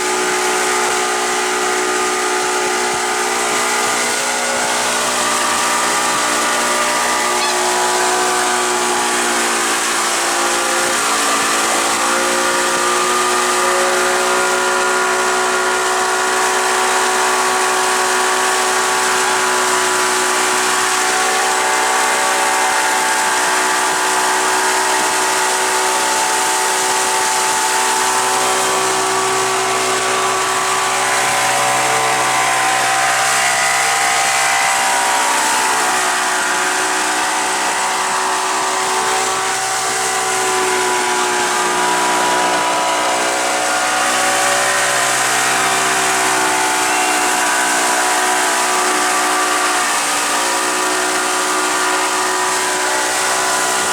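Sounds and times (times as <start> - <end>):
motorboat engine running: 0.0 - 53.9.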